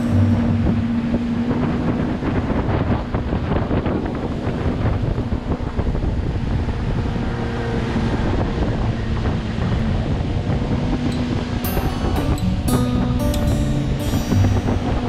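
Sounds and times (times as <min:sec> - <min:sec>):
motorboat engine hum: 0:00.0 - 0:15.0
water rushing along hull: 0:00.0 - 0:15.0
wind buffeting microphone: 0:00.0 - 0:15.0.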